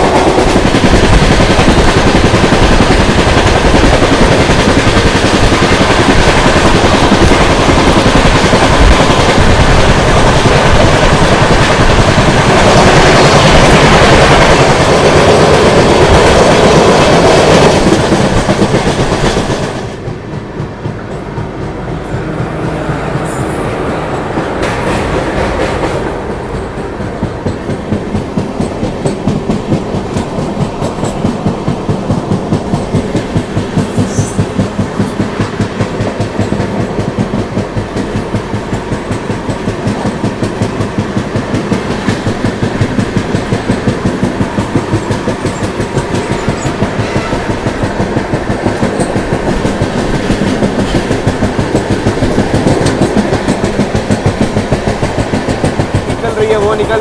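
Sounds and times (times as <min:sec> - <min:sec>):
steady train rumble: 0:00.0 - 0:57.0
train wheels clattering on rails: 0:00.0 - 0:57.0.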